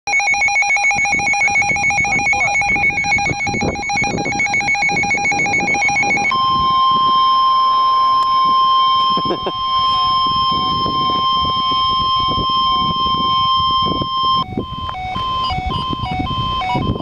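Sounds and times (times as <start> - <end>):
pulsing electronic beeps: 0.1 - 17.0
steady alarm tone: 0.1 - 17.0.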